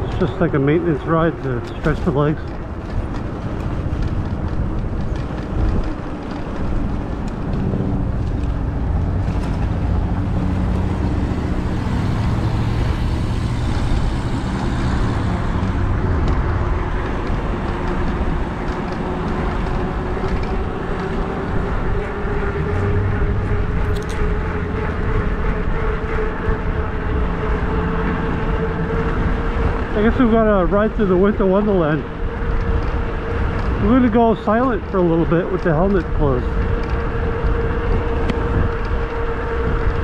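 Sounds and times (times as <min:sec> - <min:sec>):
tyre and road noise: 0:00.0 - 0:40.0
wind rushing over microphone: 0:00.0 - 0:40.0.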